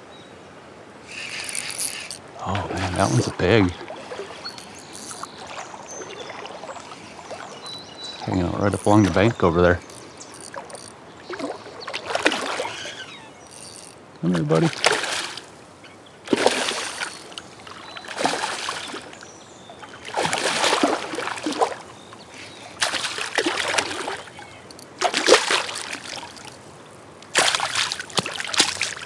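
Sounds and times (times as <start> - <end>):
fish splashing in water: 1.1 - 7.9, 8.6 - 14.0, 14.7 - 15.6, 16.3 - 21.9, 22.8 - 26.6, 27.3 - 29.0.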